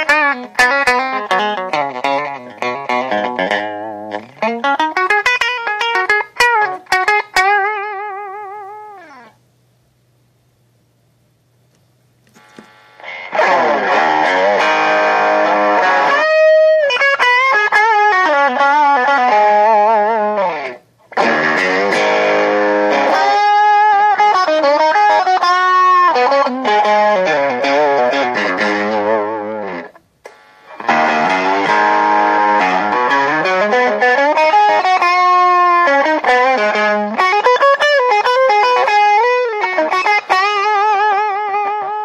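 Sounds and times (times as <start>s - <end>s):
electric guitar chords: 0.0s - 9.4s, 12.3s - 42.0s
guitar single notes with vibrato: 0.0s - 9.4s, 12.3s - 42.0s.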